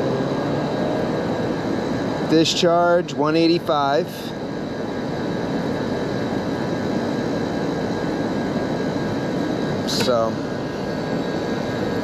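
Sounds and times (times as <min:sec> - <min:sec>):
air conditioning unit running: 0:00.0 - 0:12.0.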